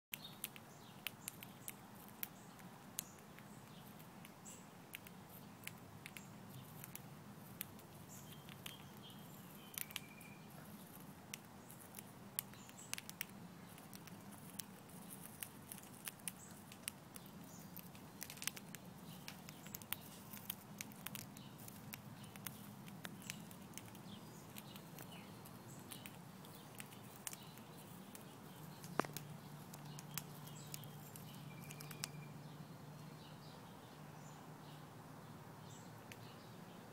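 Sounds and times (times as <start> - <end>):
birds cracking seeds: 0.1 - 32.3
faint steady low hum: 0.1 - 36.9.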